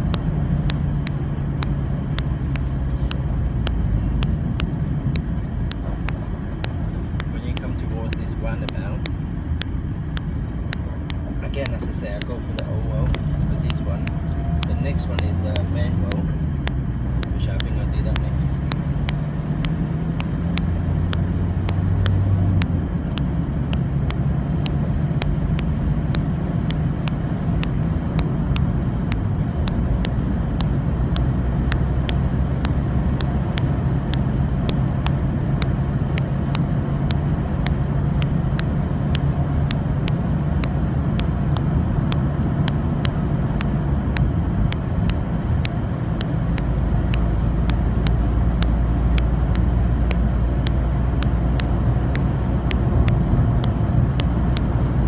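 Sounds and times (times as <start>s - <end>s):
faint repeating tick: 0.0s - 54.7s
low engine drone: 0.0s - 55.0s.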